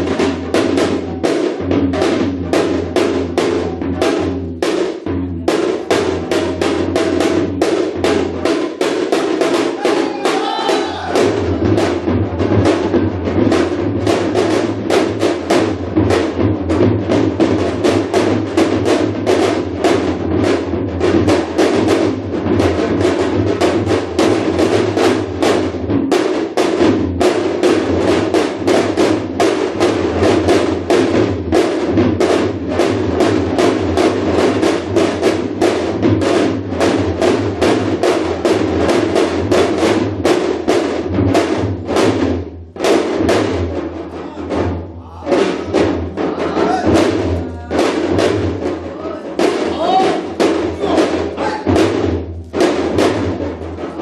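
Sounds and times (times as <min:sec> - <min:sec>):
fast hourglass drum strokes: 0:00.0 - 0:54.0.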